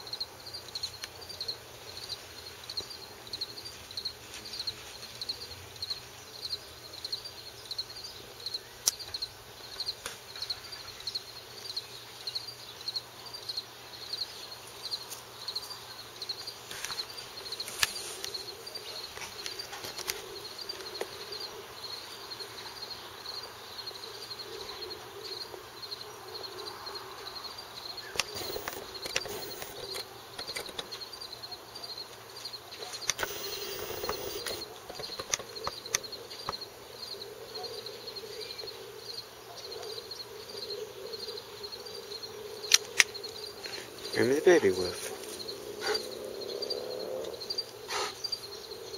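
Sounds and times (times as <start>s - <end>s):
cricket chirping: 0.0s - 48.9s.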